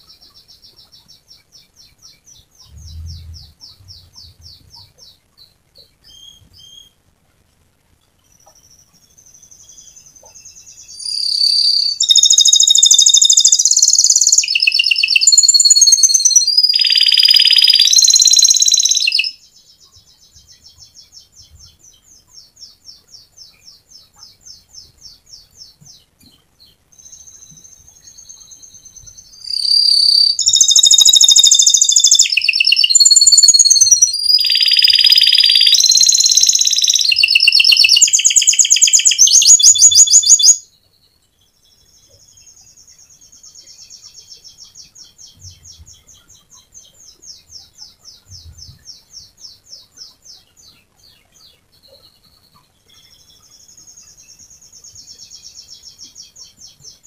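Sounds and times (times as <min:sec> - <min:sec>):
canary singing and trilling: 0:00.0 - 0:07.0, 0:08.0 - 0:57.0.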